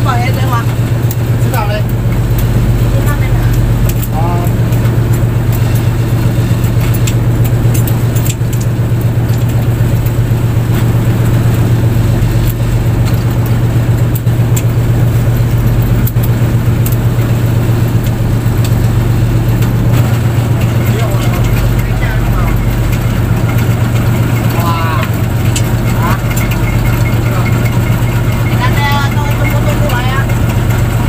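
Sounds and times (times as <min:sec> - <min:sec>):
boat engine droning: 0:00.0 - 0:31.0
light rattling clicks: 0:00.4 - 0:11.0, 0:12.4 - 0:31.0.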